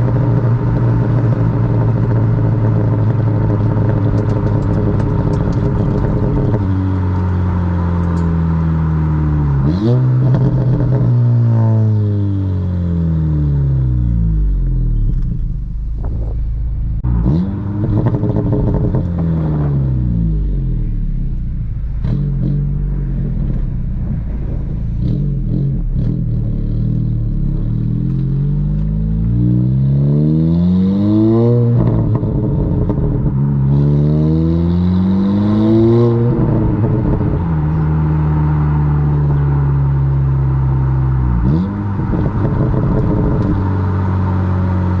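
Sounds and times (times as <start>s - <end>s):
car exhaust accelerating: 0.0s - 45.0s.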